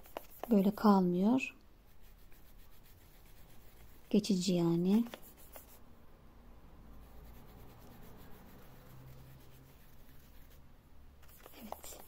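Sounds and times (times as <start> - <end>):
brush scratching on yarn: 0.0 - 1.2, 1.8 - 5.8, 7.0 - 12.0.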